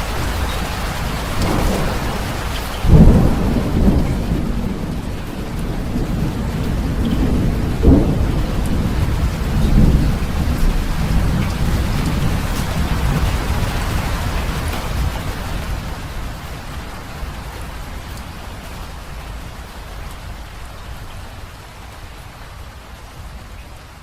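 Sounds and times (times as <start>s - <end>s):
thunder rumbling: 0.0s - 22.2s
steady rain: 0.0s - 24.0s.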